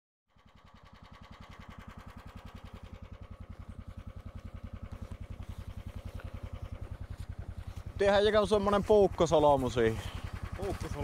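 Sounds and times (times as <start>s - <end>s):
small engine throbbing: 0.3s - 11.0s.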